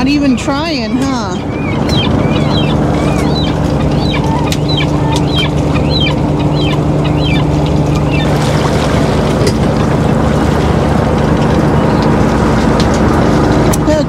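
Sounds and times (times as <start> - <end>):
gulls squawking: 0.0 - 13.1
boat engine humming: 0.0 - 14.0.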